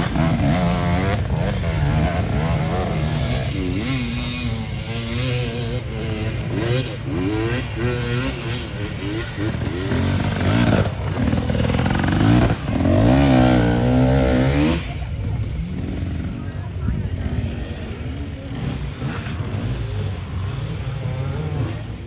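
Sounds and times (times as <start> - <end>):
off-road racing engines revving: 0.0 - 22.0.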